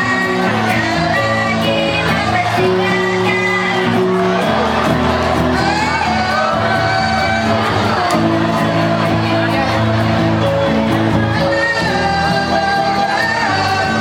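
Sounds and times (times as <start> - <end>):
crowd noise: 0.0 - 14.0
live band with singer: 0.0 - 14.0.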